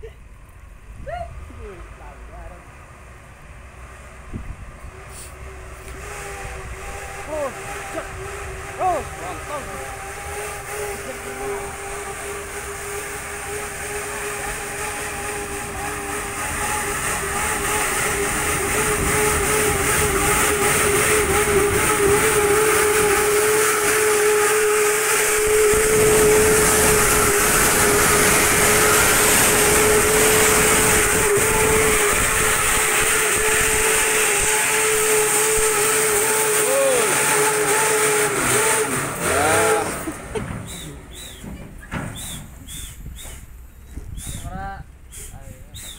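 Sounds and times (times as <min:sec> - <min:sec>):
truck diesel engine whining drone: 0:00.0 - 0:45.9.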